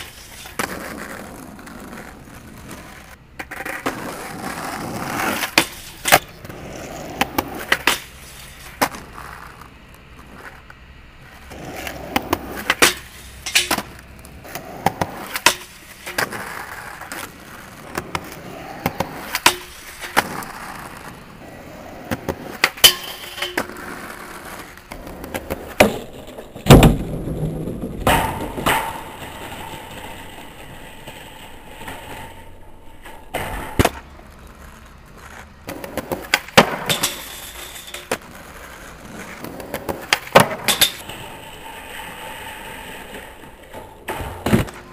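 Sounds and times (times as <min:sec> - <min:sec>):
skateboard clacks: 0:00.0 - 0:44.9
skateboard wheels rolling on asphalt: 0:00.0 - 0:44.9.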